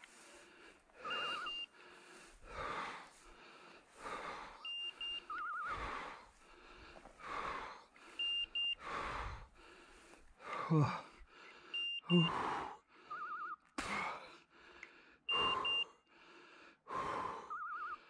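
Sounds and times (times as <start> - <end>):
heavy breathing: 0.0 - 13.2, 13.8 - 18.0.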